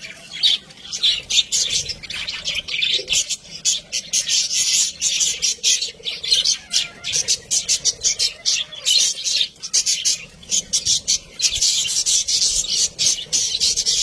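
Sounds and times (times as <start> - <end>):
budgerigars chirping and squawking: 0.0 - 14.0.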